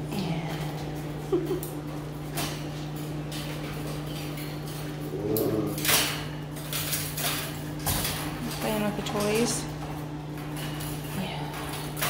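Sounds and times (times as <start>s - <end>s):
low electrical hum: 0.0s - 12.0s
puppies scuffling on tile floor: 0.0s - 12.0s.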